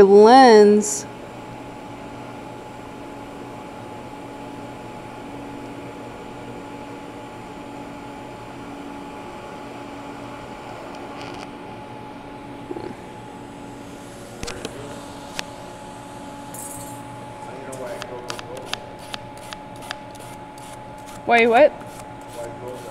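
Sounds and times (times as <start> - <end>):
faint constant whine: 0.0 - 22.9.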